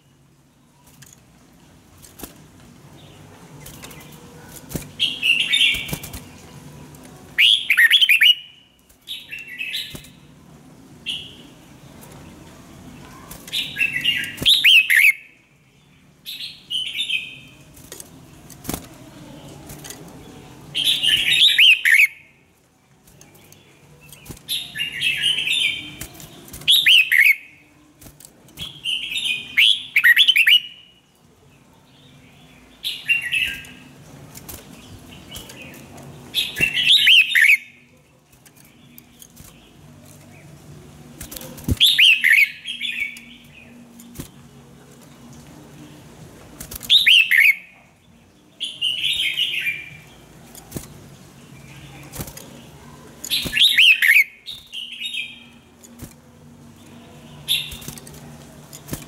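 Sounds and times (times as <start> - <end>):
bird singing warbling phrases: 3.0 - 6.4, 7.2 - 10.3, 11.0 - 17.7, 18.9 - 22.4, 23.3 - 27.8, 28.6 - 34.0, 34.6 - 46.1, 46.8 - 58.4.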